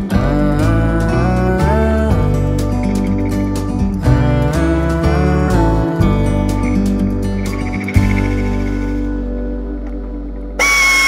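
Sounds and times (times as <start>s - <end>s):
gentle sliding melody: 0.0s - 10.6s.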